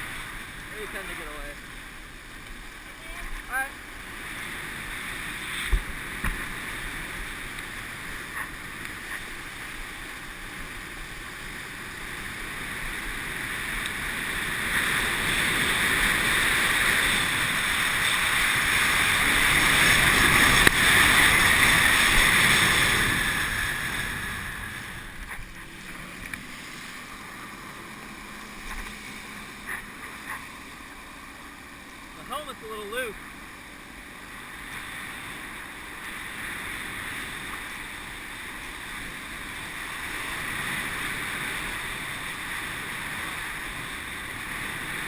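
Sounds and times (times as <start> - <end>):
water ski hissing on water: 0.0 - 45.0.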